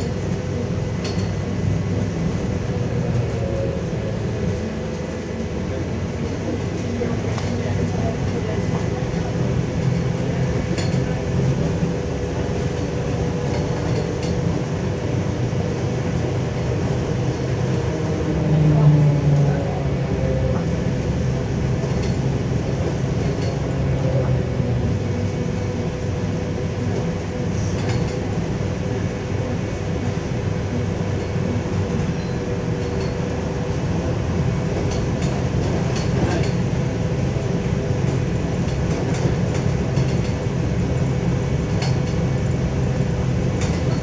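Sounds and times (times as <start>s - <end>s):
low running rumble: 0.0s - 44.0s.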